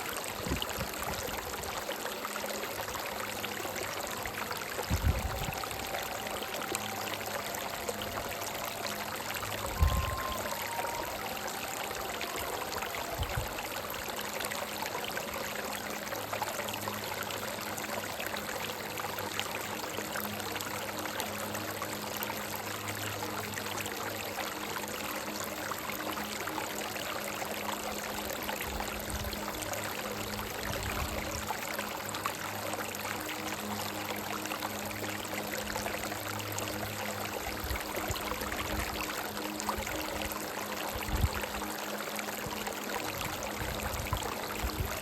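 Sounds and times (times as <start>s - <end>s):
brook babbling over stones: 0.0s - 45.0s.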